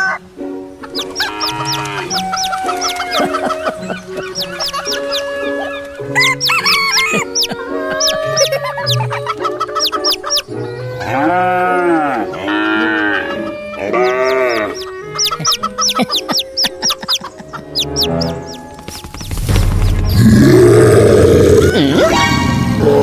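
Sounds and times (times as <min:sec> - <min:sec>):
chickens clucking: 0:00.0 - 0:19.2
background music: 0:00.0 - 0:23.0.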